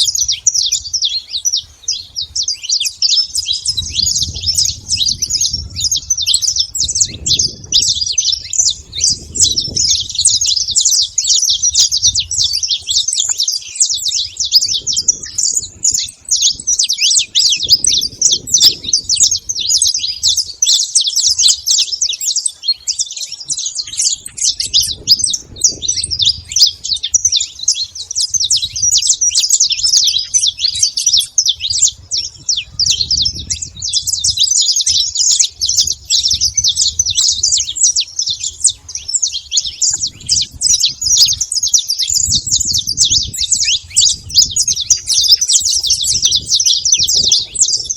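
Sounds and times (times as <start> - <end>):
finch singing high chirps: 0.0 - 47.9.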